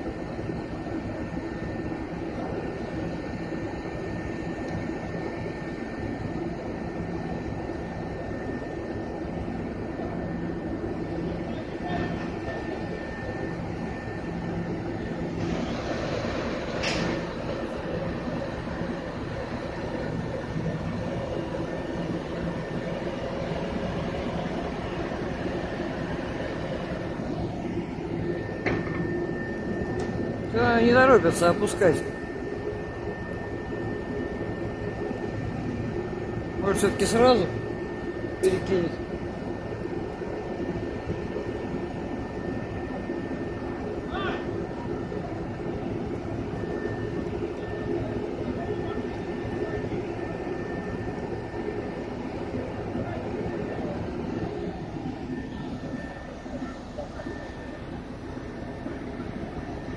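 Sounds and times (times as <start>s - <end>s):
faint high whine: 0.0s - 59.9s
heavy machinery engine drone: 0.0s - 59.9s.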